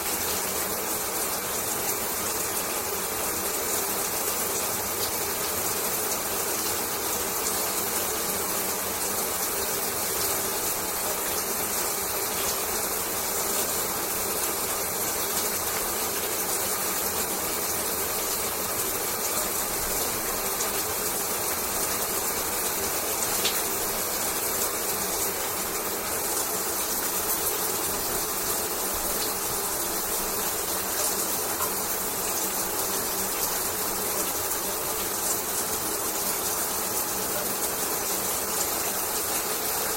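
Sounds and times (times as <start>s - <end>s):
shower spray of water: 0.0s - 39.9s.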